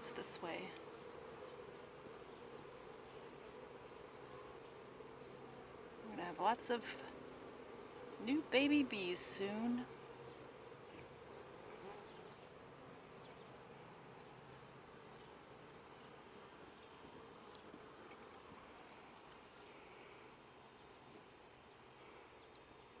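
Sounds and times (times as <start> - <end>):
bees buzzing: 0.0 - 20.3.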